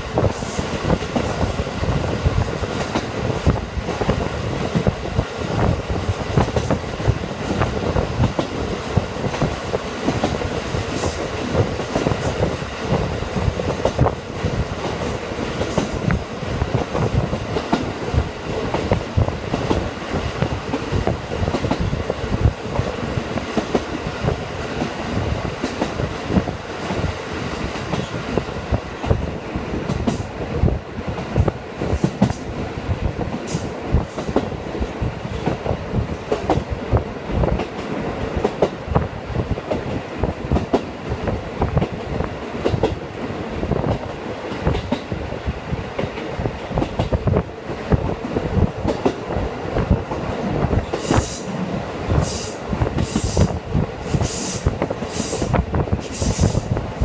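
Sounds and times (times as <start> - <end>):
railcar wheels and engine rumble: 0.0 - 57.0.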